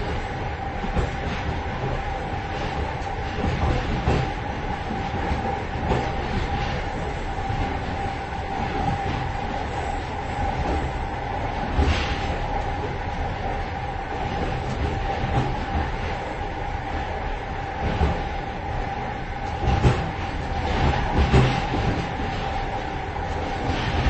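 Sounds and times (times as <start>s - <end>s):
train wheels rumbling and clattering: 0.0s - 24.0s.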